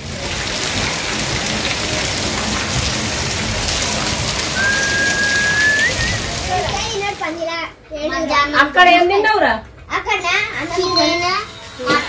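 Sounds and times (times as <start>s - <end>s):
steady rain pouring: 0.0s - 11.4s.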